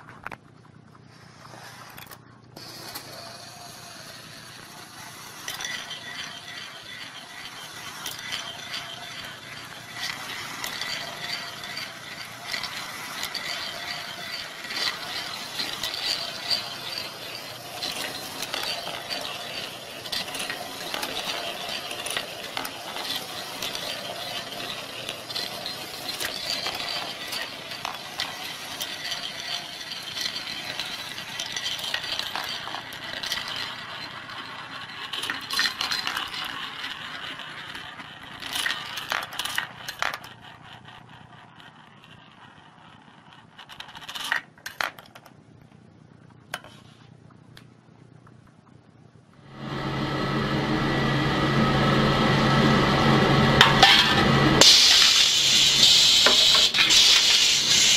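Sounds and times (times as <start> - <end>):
steel balls clicking and clinking: 1.8 - 45.5, 53.6 - 57.9.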